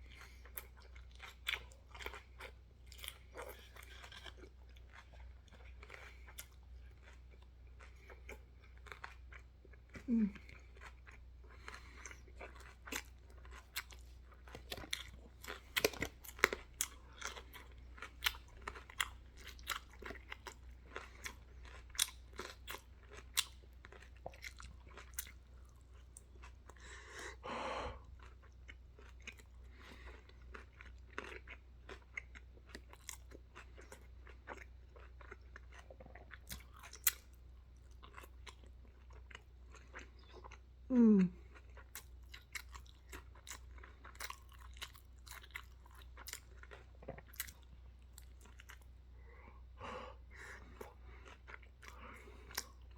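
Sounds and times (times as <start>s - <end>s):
person chewing loudly: 0.0s - 52.9s.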